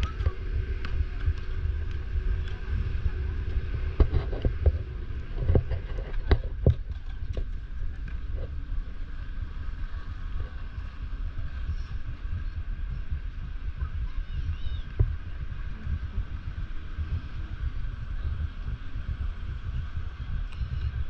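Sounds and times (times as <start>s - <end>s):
faint voices: 0.0s - 21.0s
low rumble: 0.0s - 21.0s.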